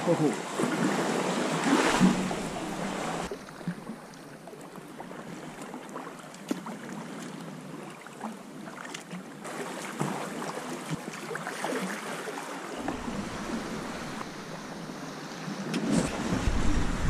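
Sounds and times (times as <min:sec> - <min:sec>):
water lapping around kayak: 0:00.0 - 0:17.0
paddle drips and splashes: 0:00.5 - 0:16.3.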